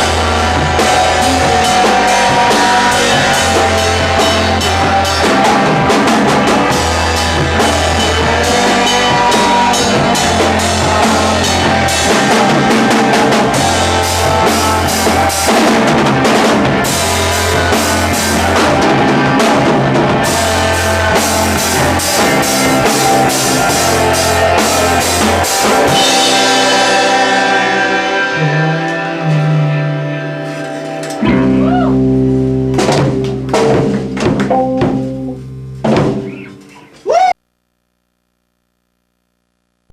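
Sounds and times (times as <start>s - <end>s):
held low musical part: 0.0s - 36.3s
rock music with drums and guitar: 0.0s - 37.0s.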